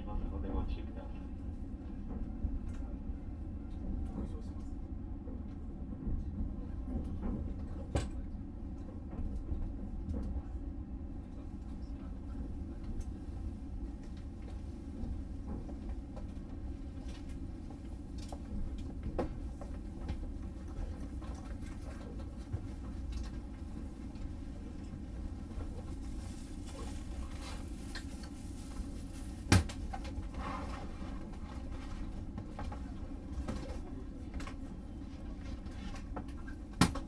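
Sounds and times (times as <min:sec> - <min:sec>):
train cabin low hum: 0:00.0 - 0:37.0.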